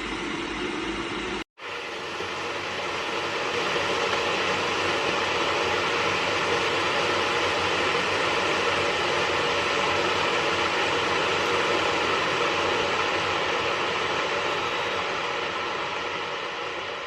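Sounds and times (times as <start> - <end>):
electric kettle heating water: 0.0 - 17.0.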